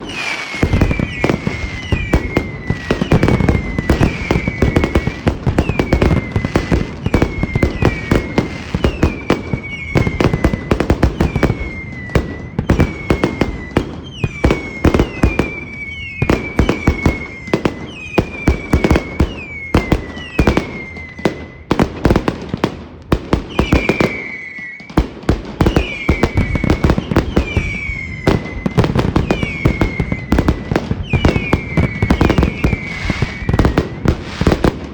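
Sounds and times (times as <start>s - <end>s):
falling firework whistles: 0.0s - 34.9s
fireworks booming and crackling: 0.0s - 34.9s.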